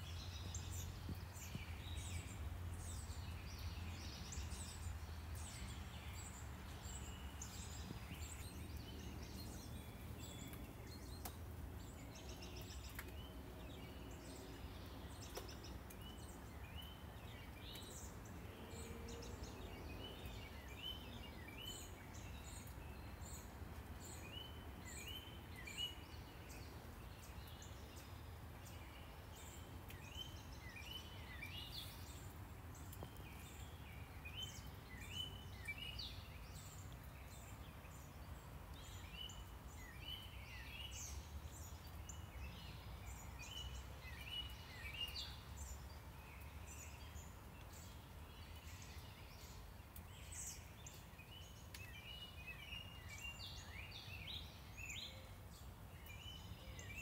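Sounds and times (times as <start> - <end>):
distant traffic rumble: 0.0 - 49.0
birds singing and chirping: 0.0 - 57.0.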